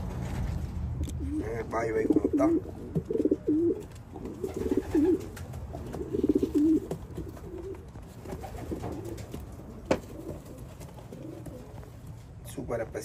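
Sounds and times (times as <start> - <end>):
pigeons cooing: 1.2 - 12.2.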